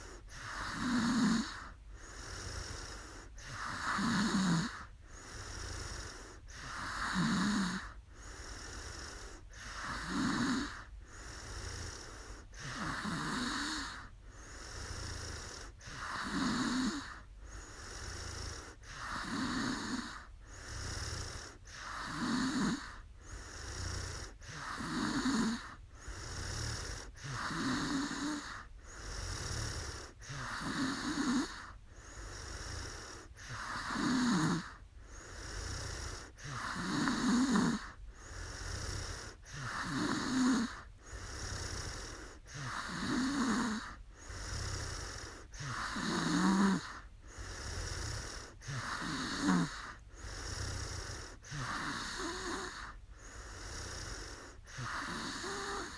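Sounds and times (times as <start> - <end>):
woman snoring: 0.0 - 55.9.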